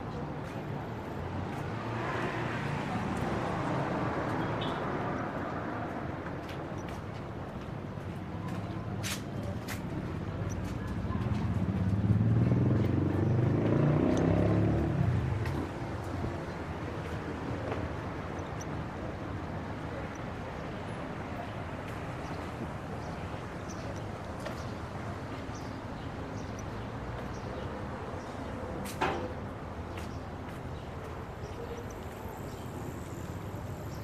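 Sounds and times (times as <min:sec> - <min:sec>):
distant traffic hum: 0:00.0 - 0:34.0.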